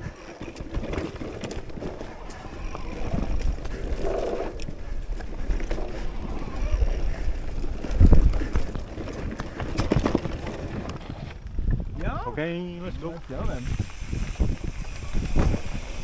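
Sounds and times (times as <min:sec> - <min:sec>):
bike rattling on rough trail: 0:00.0 - 0:16.0
wind on microphone: 0:00.0 - 0:16.0.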